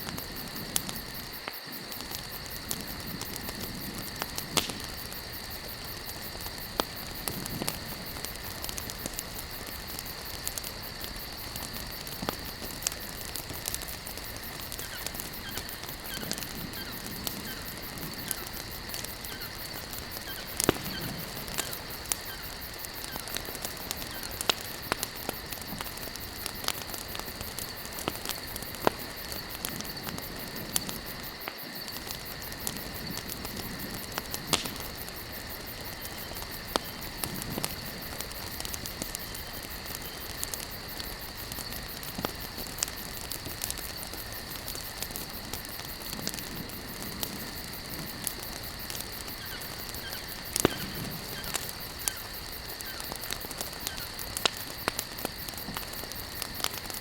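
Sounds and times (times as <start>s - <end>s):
campfire logs crackling: 0.0s - 57.0s.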